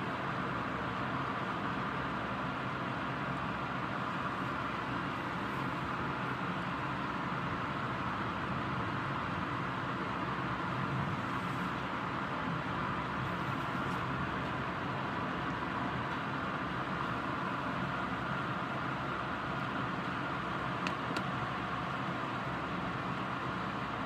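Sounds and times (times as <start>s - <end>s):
steady rain hiss: 0.2s - 20.8s.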